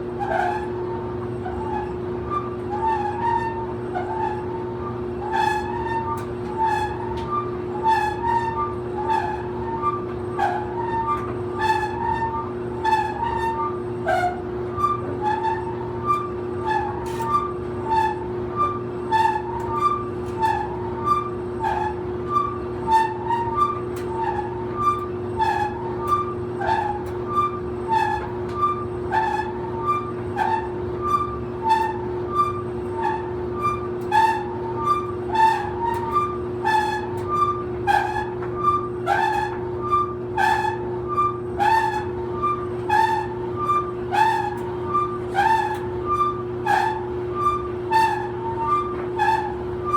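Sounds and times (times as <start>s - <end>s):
clothes dryer motor hum: 0.0s - 49.9s
dryer squeaking: 0.2s - 49.9s.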